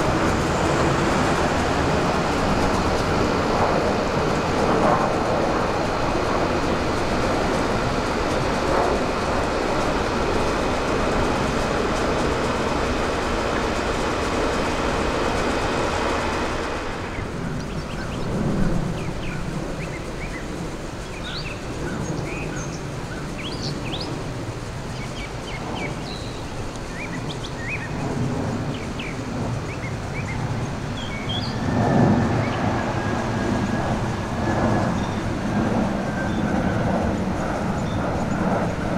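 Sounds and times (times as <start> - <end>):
birds chirping: 0.0 - 38.9
jet engines rumbling and whining: 0.0 - 38.9.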